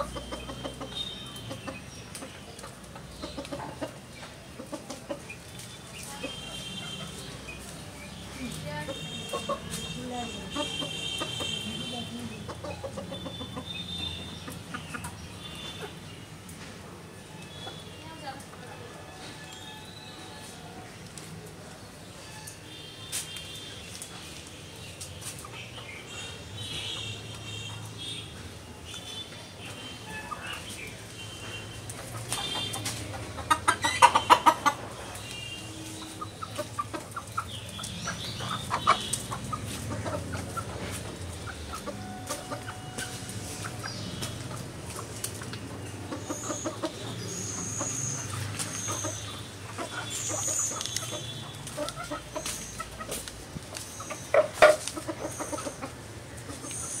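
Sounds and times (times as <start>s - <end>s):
chickens clucking: 0.0s - 22.6s, 30.0s - 57.0s.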